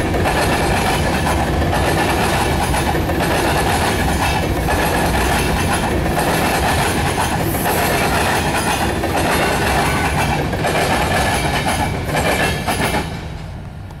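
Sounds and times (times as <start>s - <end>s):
freight train rolling past: 0.0s - 14.0s
steel wheels clacking on rails: 0.0s - 14.0s.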